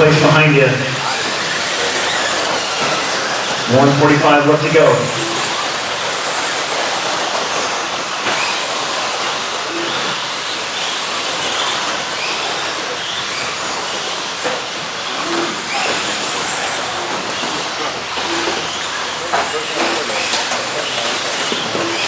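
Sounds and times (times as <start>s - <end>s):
electric motor and drivetrain whine: 0.0s - 22.0s.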